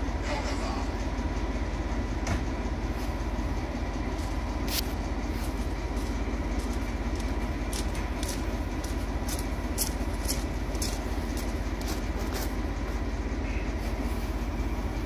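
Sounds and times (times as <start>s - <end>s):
locomotive diesel engine running: 0.0s - 15.0s
steady whine: 0.0s - 15.0s
sharp clicks from train: 0.2s - 14.4s.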